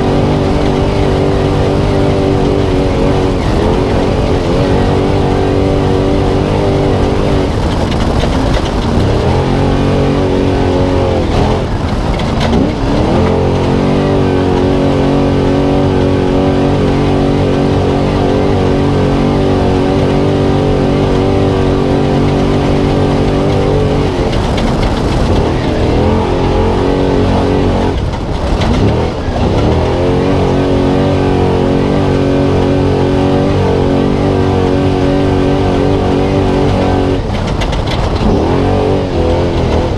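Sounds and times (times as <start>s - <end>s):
truck engine at high revs: 0.0s - 39.9s.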